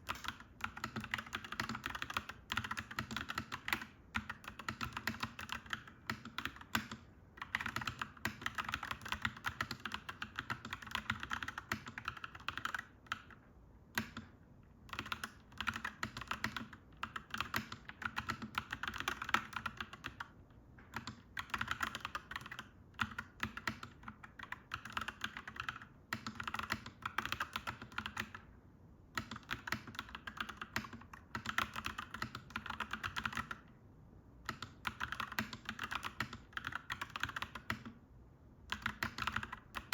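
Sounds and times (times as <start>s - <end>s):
mechanical keyboard typing: 0.0s - 28.5s, 29.1s - 33.7s, 34.4s - 38.0s, 38.7s - 39.9s.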